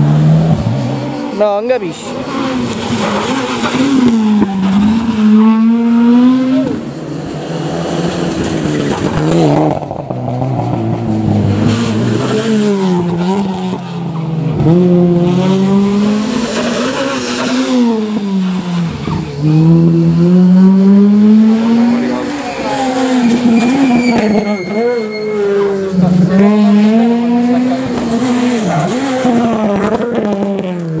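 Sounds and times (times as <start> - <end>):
rally car engines revving: 0.0 - 31.0.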